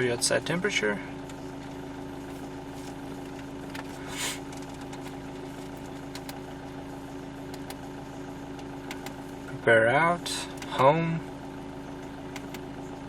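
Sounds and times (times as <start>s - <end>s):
car engine idling hum: 0.0s - 13.0s.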